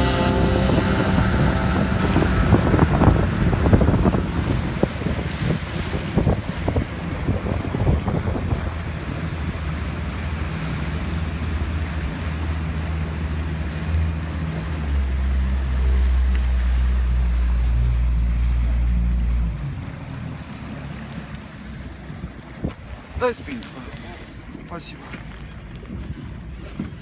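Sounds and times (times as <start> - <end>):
wind buffeting microphone: 0.0 - 14.4, 16.0 - 27.0
motorboat engine running: 0.0 - 27.0.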